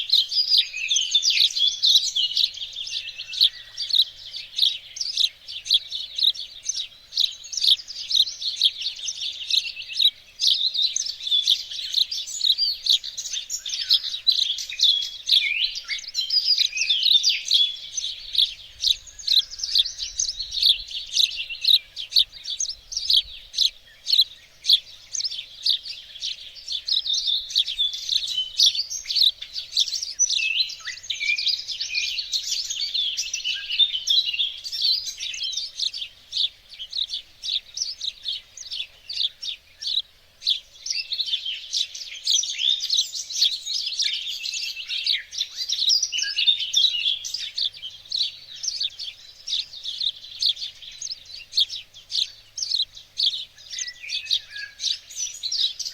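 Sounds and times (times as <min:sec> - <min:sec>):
songbirds chirping chorus: 0:00.0 - 0:55.9.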